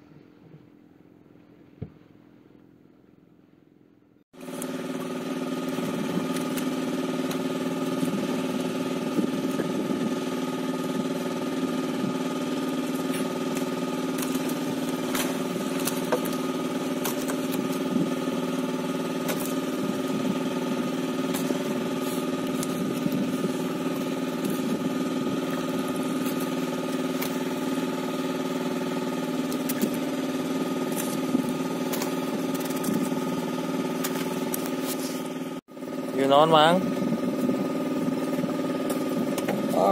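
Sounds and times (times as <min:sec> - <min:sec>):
small engine running: 0:04.4 - 0:39.9.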